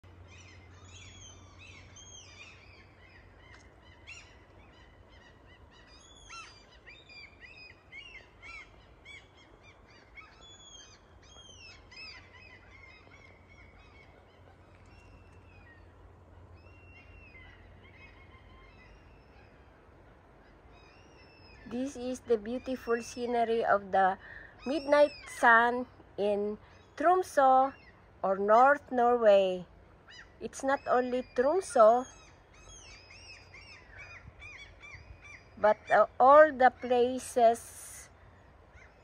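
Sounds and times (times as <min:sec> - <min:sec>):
small birds chirping: 0:00.0 - 0:19.8, 0:20.4 - 0:39.0.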